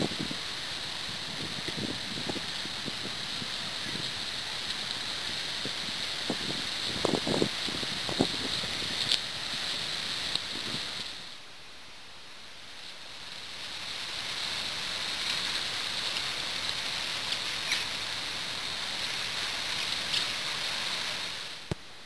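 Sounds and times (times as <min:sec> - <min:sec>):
flood water rushing: 0:00.0 - 0:11.3, 0:13.0 - 0:21.8.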